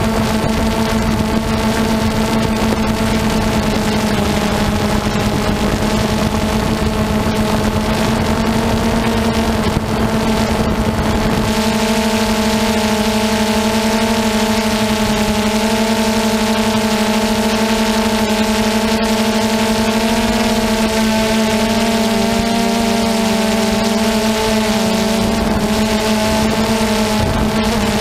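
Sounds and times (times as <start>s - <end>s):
drone propellers whirring: 0.0s - 28.0s
wind noise on microphone: 0.0s - 28.0s.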